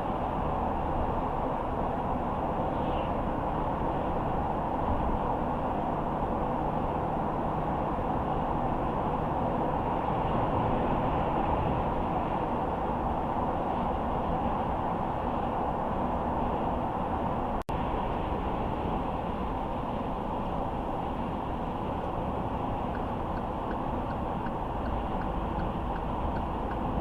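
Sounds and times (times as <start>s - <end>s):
car engine rumble: 0.0s - 27.0s.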